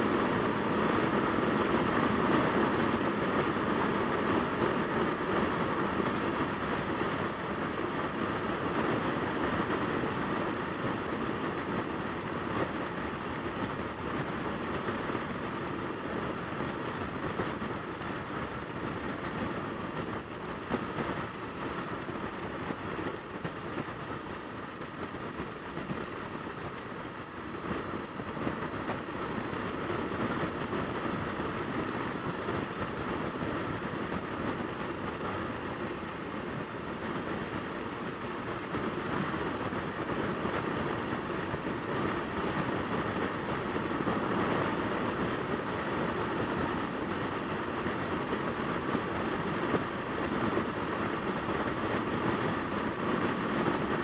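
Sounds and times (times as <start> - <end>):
motorcycle engine running steadily: 0.0 - 54.0
wind and road noise: 0.0 - 54.0.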